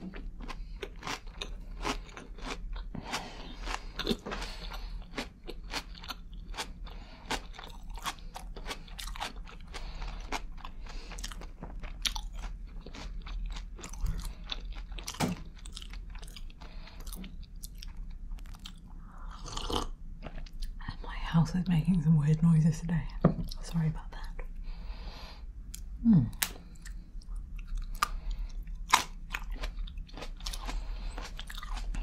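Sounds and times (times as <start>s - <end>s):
person chewing crunchy food: 0.0s - 20.8s, 24.4s - 32.0s.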